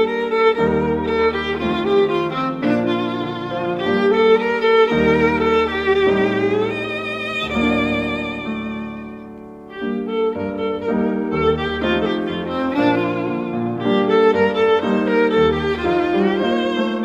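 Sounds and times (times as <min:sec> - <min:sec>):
low musical accompaniment: 0:00.0 - 0:17.0
violin playing slow melody: 0:00.0 - 0:17.0.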